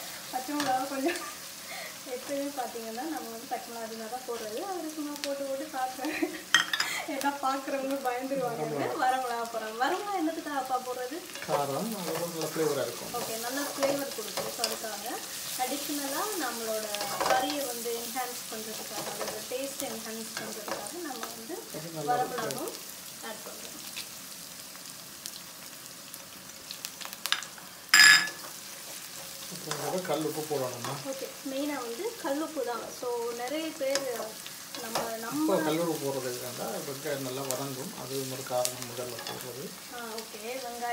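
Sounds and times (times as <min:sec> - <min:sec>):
vegetables sizzling in hot oil: 0:00.0 - 0:40.9.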